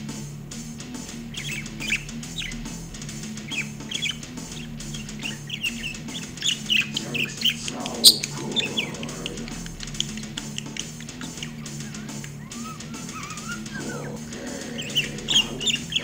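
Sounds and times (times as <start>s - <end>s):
music from a speaker: 0.0s - 16.0s
budgerigar chirping: 1.1s - 16.0s.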